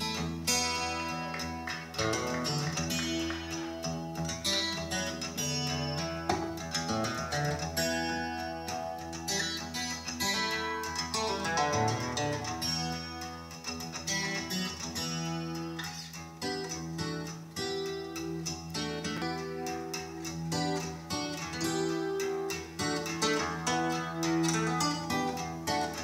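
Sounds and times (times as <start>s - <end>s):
acoustic guitar music over loudspeakers: 0.0s - 26.0s.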